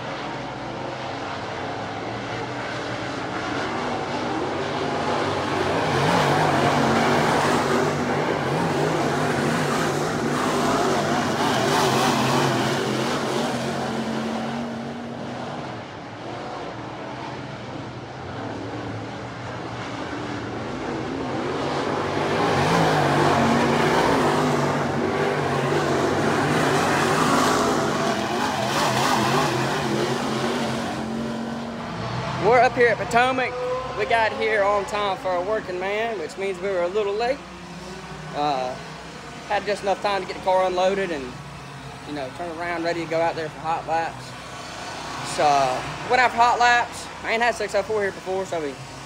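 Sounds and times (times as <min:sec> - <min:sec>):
race car engines passing: 0:00.0 - 0:49.0.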